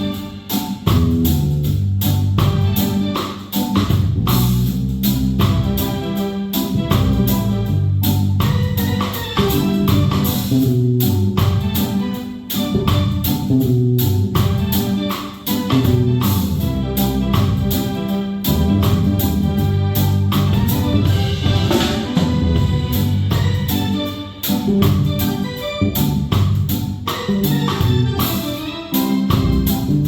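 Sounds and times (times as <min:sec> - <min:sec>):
bass guitar: 0:00.0 - 0:30.0
drum kit steady beat: 0:00.0 - 0:30.0
organ keyboard: 0:00.0 - 0:30.0.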